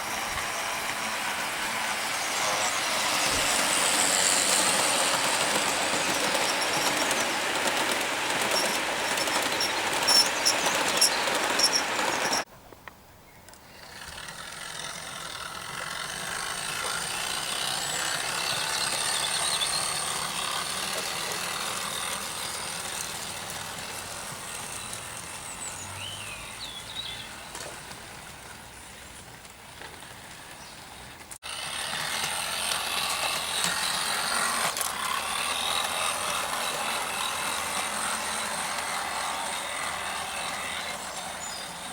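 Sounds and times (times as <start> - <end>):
model train rattling on track: 0.0 - 12.5, 13.5 - 41.9.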